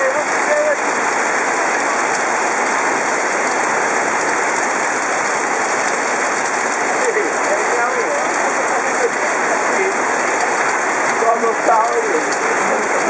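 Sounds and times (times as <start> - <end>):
torrential rain on pavement: 0.0 - 13.0.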